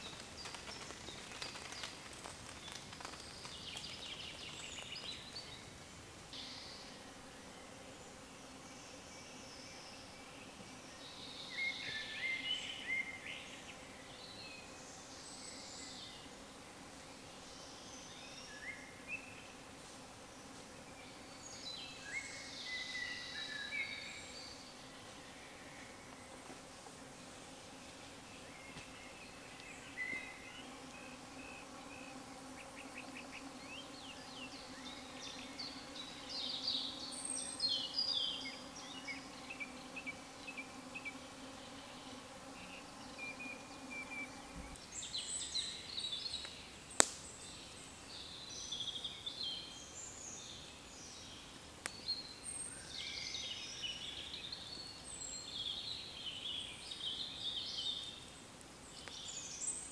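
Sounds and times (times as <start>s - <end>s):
songbirds singing and calling: 0.0s - 16.4s, 27.7s - 59.9s.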